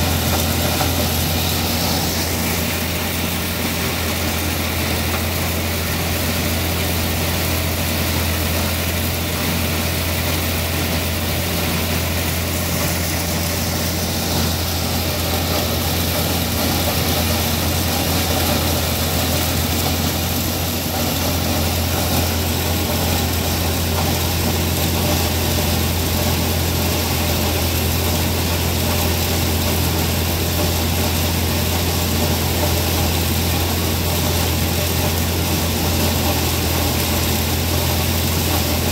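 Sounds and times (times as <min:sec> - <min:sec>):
grinder rushing grinding noise: 0:00.0 - 0:38.9
tractor engine hum: 0:00.0 - 0:38.9.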